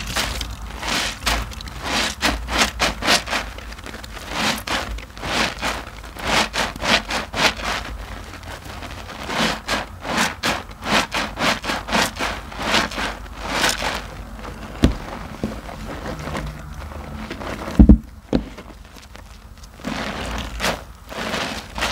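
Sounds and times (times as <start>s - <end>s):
soapy loofahs squelching: 0.0s - 21.9s.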